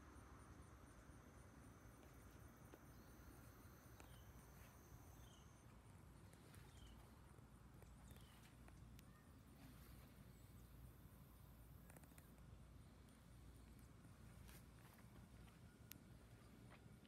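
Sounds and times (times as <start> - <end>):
faint garden ambience: 0.0 - 17.0.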